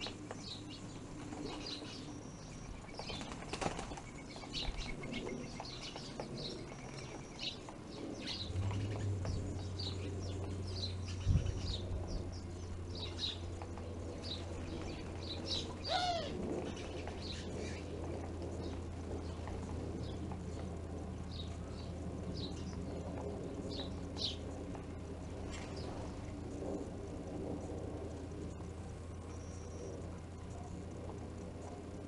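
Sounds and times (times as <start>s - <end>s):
wings fluttering: 0.0s - 22.0s, 22.6s - 29.1s
small birds chirping: 0.0s - 26.7s
steady low hum: 0.0s - 32.0s.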